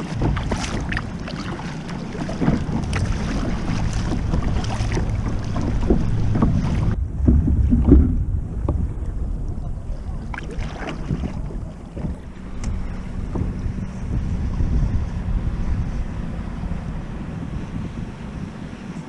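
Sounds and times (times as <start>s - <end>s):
water splashing against kayak hull: 0.0s - 19.0s
wind buffeting microphone: 0.0s - 19.0s.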